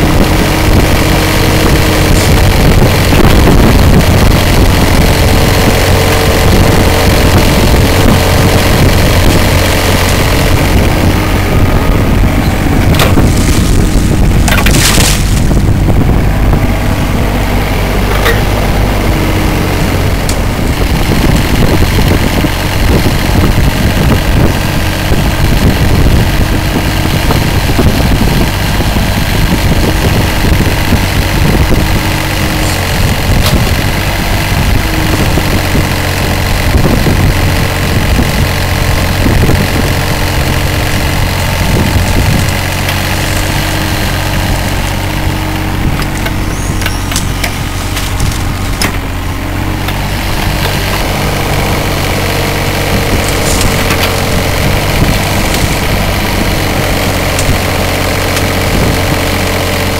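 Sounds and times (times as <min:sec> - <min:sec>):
mini excavator diesel engine: 0:00.0 - 0:59.9.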